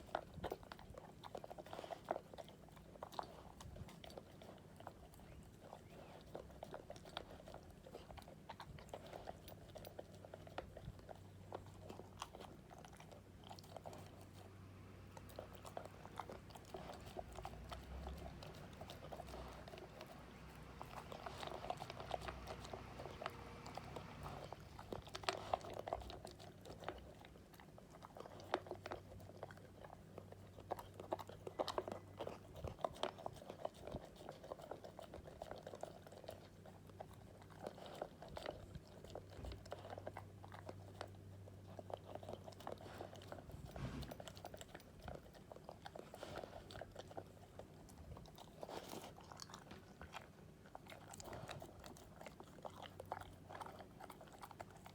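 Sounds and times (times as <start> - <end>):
dog chewing and crunching food: 0.0 - 54.9.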